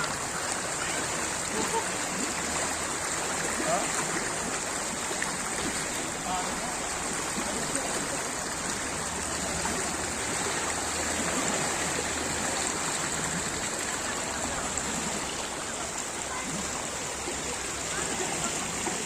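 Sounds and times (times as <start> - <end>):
floodwater running: 0.0 - 19.0.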